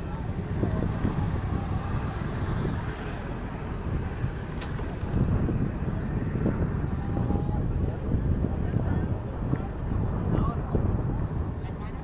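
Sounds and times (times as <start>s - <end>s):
distant road traffic: 0.0s - 12.0s
wind rumble on microphone: 0.0s - 12.0s.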